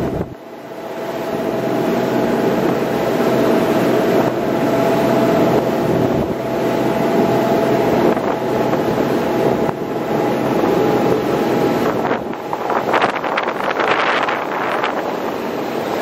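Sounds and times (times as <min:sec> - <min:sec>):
boat engines droning: 0:00.0 - 0:16.0
water rushing along hull: 0:00.0 - 0:16.0.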